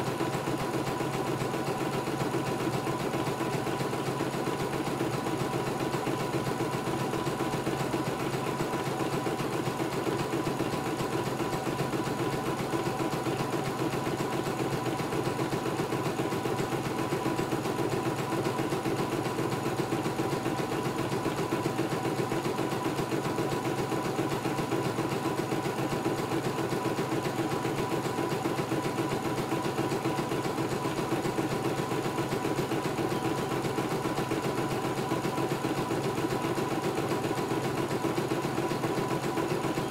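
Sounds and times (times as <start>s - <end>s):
embroidery machine needle stitching: 0.0s - 39.9s.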